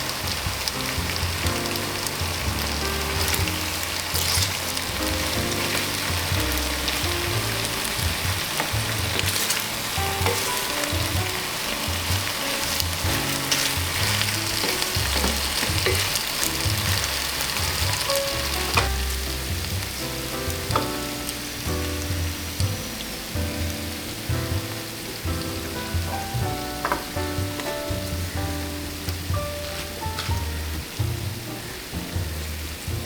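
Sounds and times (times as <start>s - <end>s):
background music: 0.0s - 33.0s
food sizzling in a pan: 0.0s - 33.0s.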